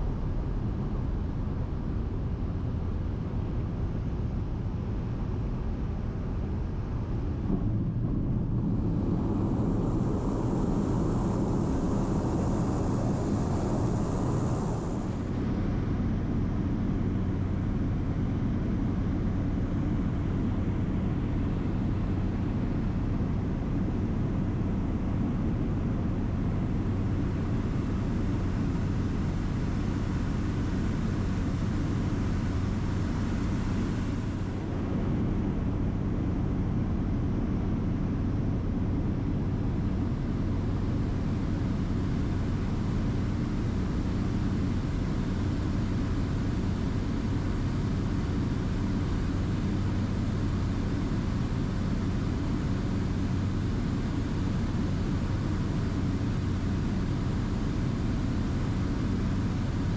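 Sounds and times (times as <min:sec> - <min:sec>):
small plane cabin drone: 0:00.0 - 0:59.9.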